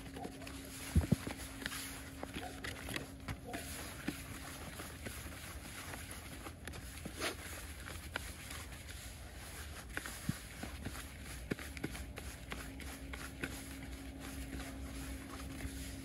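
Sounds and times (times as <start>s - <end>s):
hands mixing gritty bait: 0.0s - 16.0s.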